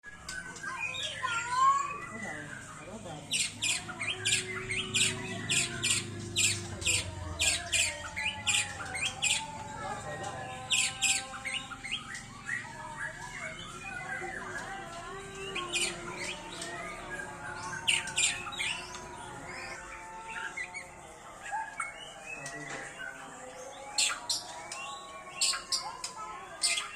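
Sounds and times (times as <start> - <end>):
harsh bird notes: 0.1 - 26.9.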